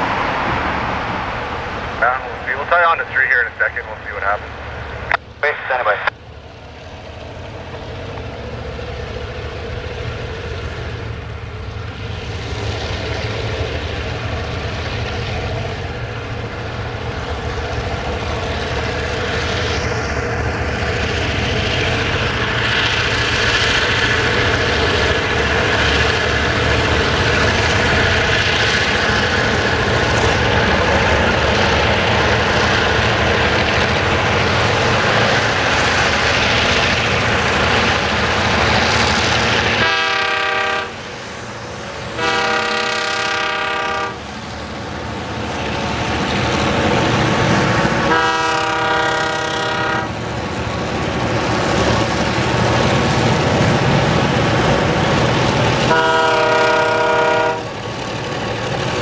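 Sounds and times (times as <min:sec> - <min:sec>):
diesel locomotive engines droning: 0:00.0 - 0:59.0.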